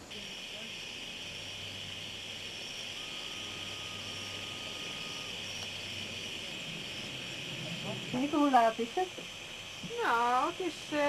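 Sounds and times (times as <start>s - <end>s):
crickets chirping: 0.0s - 11.0s
low steady hum: 0.0s - 11.0s.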